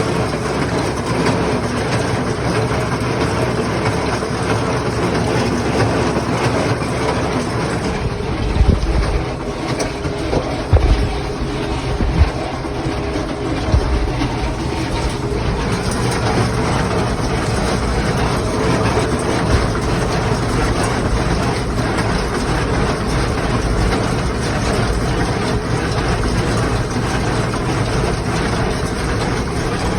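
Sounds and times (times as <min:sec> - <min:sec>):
tractor diesel engine running: 0:00.0 - 0:29.9
baler mechanical din: 0:05.2 - 0:29.9.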